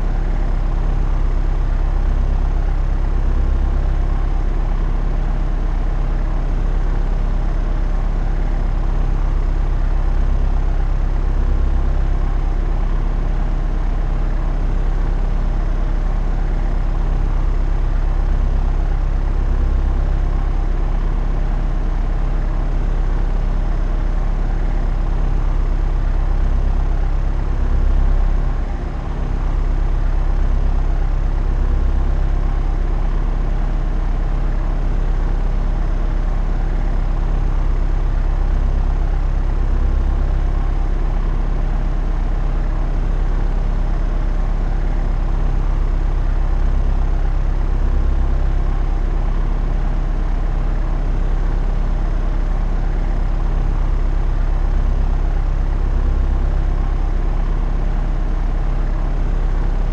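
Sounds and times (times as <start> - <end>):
propeller aircraft drone: 0.0 - 59.9.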